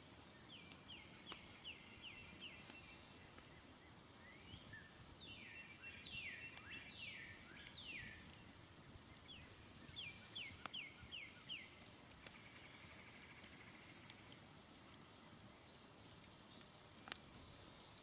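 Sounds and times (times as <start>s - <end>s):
campfire crackles: 0.0s - 18.0s.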